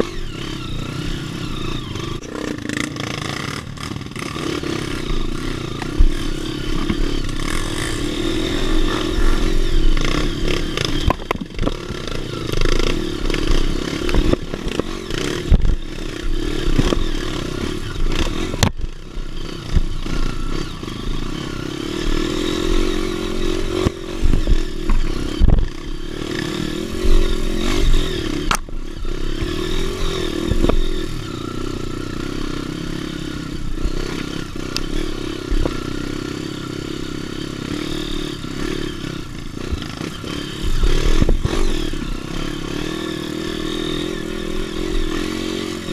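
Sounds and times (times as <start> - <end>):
knocks and clatter over rough ground: 0.0 - 36.5, 37.6 - 45.9
dirt bike engine revving: 0.0 - 45.9.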